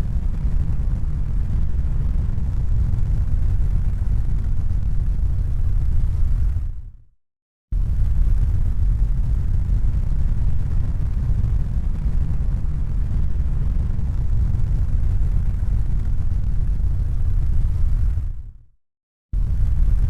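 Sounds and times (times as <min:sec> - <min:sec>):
low rumbling noise: 0:00.0 - 0:06.9, 0:07.8 - 0:18.6, 0:19.4 - 0:20.0.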